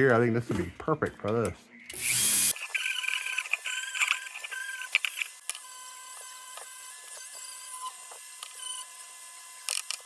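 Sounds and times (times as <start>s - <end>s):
power tool motor whining: 1.9s - 10.0s.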